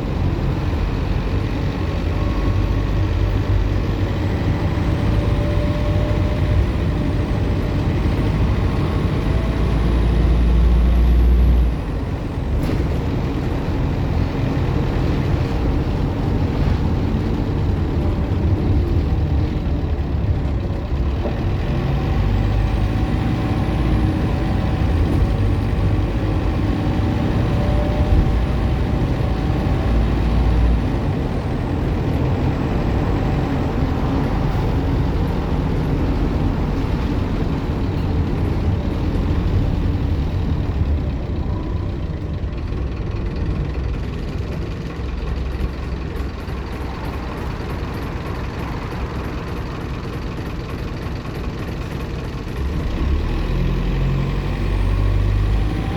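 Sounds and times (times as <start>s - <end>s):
bus diesel engine pulling hard: 0.0s - 55.9s.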